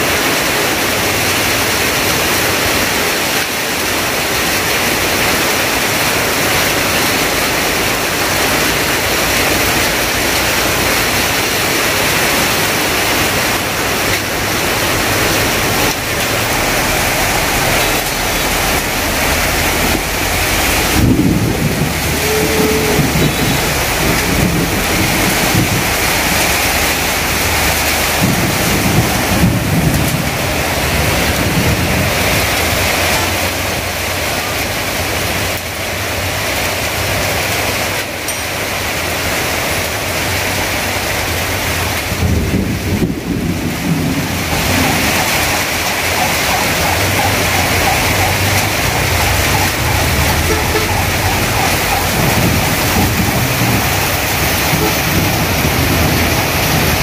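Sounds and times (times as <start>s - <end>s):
heavy rain on tarpaulin: 0.0s - 57.0s.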